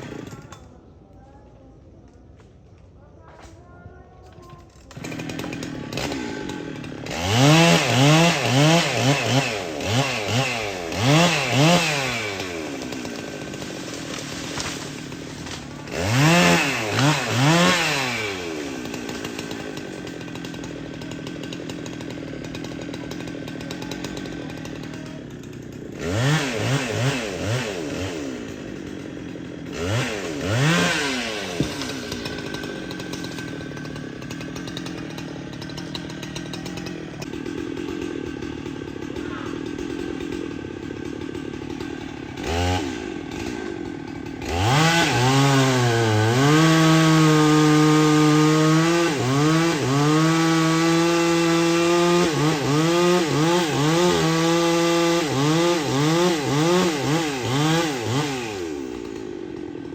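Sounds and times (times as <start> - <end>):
chainsaw idling and revving: 0.0 - 2.4, 3.2 - 59.9.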